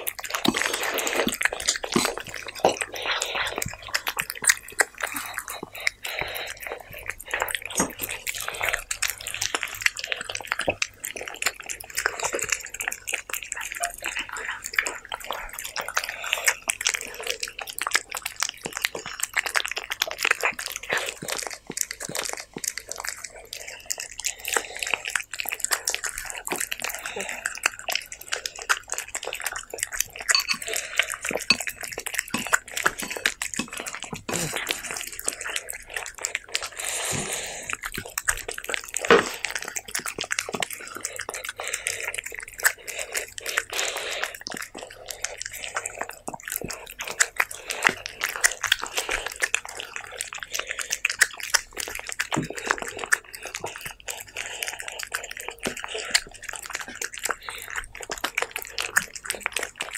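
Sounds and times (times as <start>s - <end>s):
cats chewing wet food: 0.0s - 59.9s.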